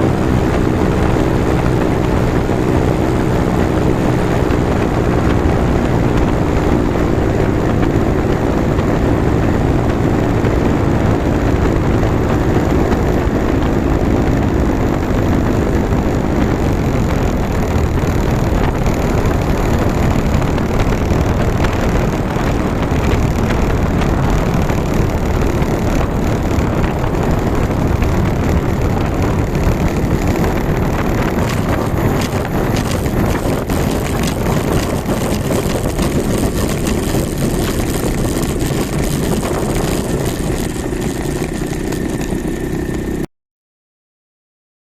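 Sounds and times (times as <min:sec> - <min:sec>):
two-stroke engine running: 0:00.0 - 0:43.3
wind noise on microphone: 0:00.0 - 0:43.3.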